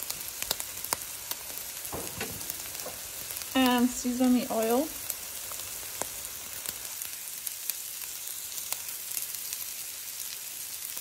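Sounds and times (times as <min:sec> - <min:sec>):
sausage sizzling in a frying pan: 0:00.0 - 0:11.0.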